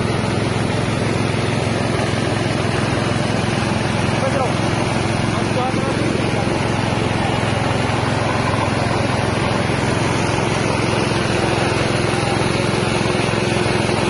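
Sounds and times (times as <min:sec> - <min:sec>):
rice milling machine running: 0:00.0 - 0:14.0.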